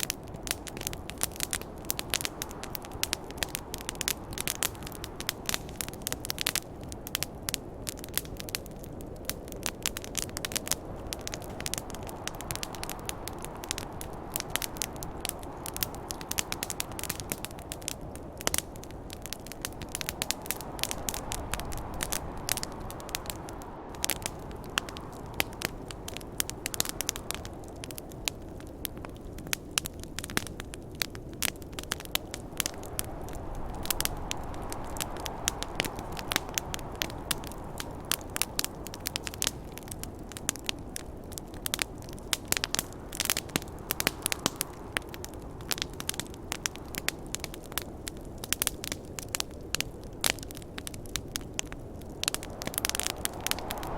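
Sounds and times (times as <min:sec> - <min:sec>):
campfire crackling and popping: 0:00.0 - 0:53.9
snowstorm wind rushing: 0:00.0 - 0:53.9.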